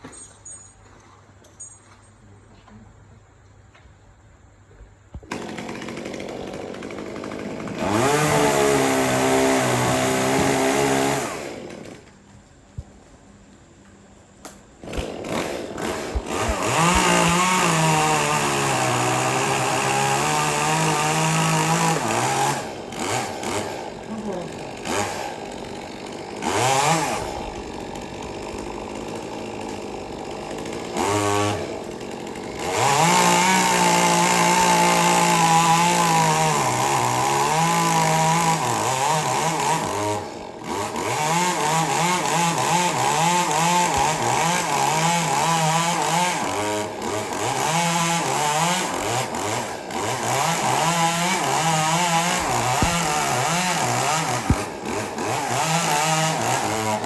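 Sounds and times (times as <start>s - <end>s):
chainsaw cutting wood: 5.1s - 12.2s, 14.5s - 57.0s.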